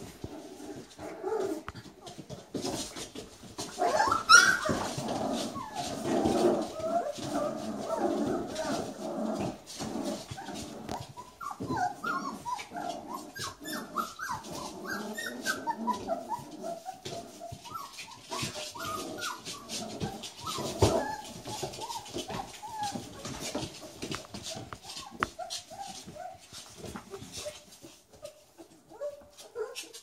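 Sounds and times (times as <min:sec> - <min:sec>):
puppies whimpering and yipping: 0:00.6 - 0:30.0.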